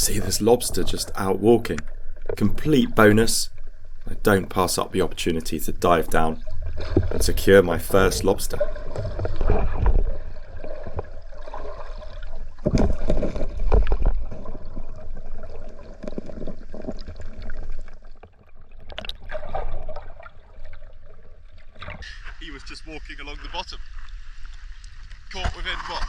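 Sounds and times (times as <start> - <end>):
water gurgling underwater: 0.0 - 22.0.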